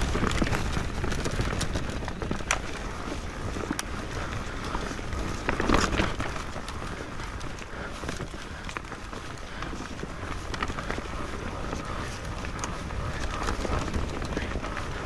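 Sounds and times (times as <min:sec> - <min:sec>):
bike rattling: 0:00.0 - 0:15.0
tyres rolling over dirt: 0:00.0 - 0:15.0.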